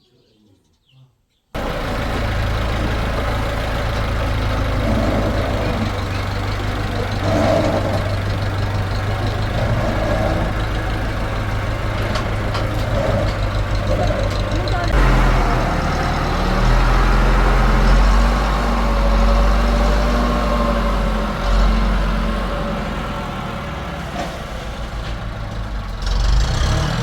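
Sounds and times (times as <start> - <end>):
heavy engine droning: 1.6 - 27.0.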